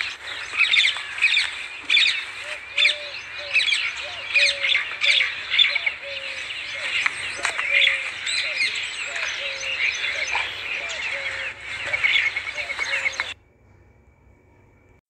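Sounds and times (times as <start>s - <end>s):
birds chirping and squawking: 0.0s - 13.4s.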